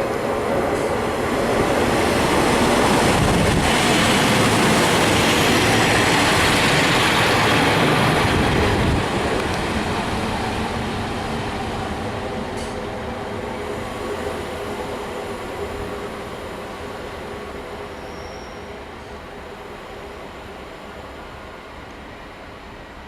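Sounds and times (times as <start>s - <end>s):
train wheels on rail: 0.0s - 23.0s.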